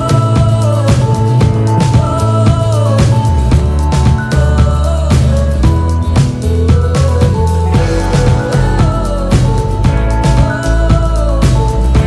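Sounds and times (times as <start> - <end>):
held bass and melody notes: 0.0 - 12.0
steady drum beat: 0.0 - 12.0.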